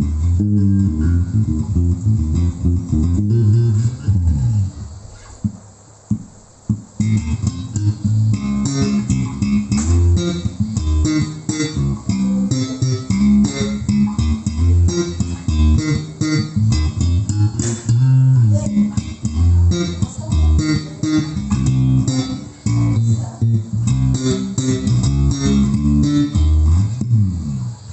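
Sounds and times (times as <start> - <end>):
electric bass guitar line: 0.0 - 27.9.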